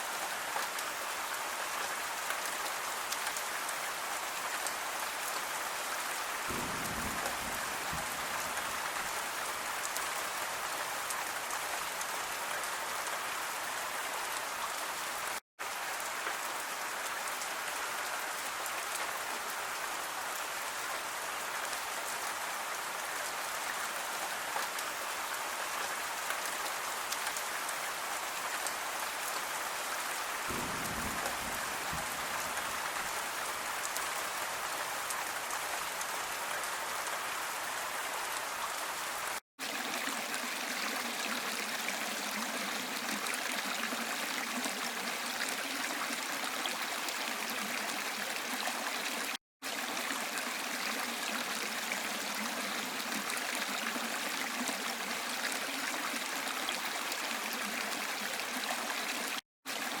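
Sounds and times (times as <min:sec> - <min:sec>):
gentle rain: 0:00.0 - 1:00.0
waterfall and stream rushing: 0:00.0 - 1:00.0.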